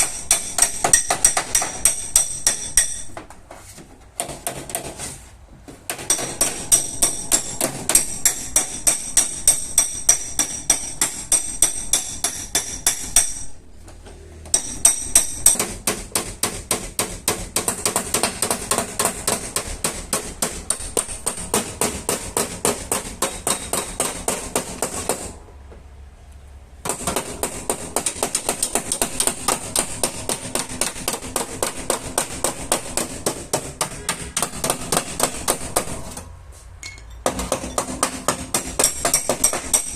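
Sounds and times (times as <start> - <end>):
hammer tapping sheet metal: 0.0 - 3.4, 4.2 - 5.2, 5.9 - 13.6, 14.5 - 25.4, 26.8 - 36.3, 36.9 - 39.9.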